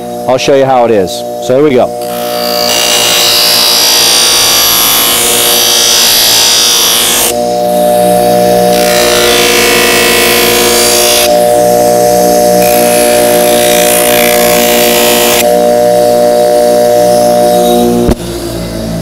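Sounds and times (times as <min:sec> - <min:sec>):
bench buffer whining: 0:00.0 - 0:19.0.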